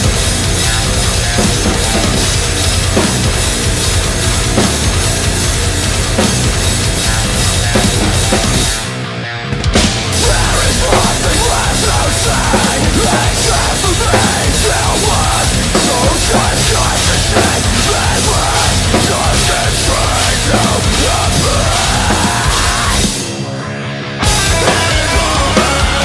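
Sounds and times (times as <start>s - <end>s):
drum kit played fast: 0.0s - 23.4s, 24.2s - 26.0s
loud metal song: 0.0s - 26.0s.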